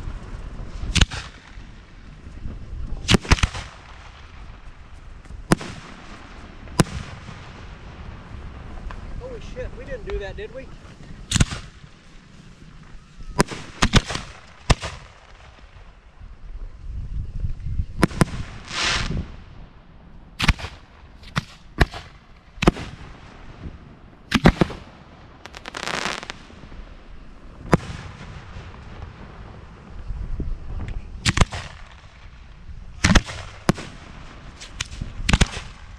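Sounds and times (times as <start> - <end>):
firework bangs: 0.0 - 15.9, 18.0 - 19.8, 20.4 - 35.9
rushing firework blast: 0.0 - 16.6, 17.9 - 35.9.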